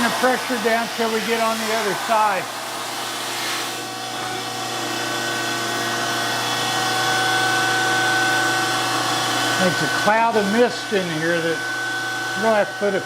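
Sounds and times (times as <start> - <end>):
grinder humming and hissing: 0.0 - 13.0.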